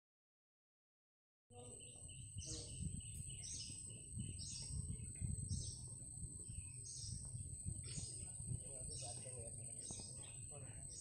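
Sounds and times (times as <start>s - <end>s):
bird calling: 1.5s - 11.0s.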